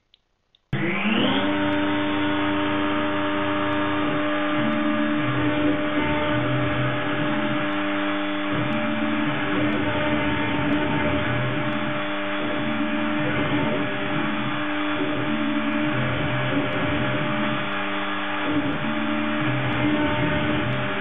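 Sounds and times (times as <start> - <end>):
milling machine spindle running: 0.8 - 21.0
motor tones shifting: 0.8 - 21.0.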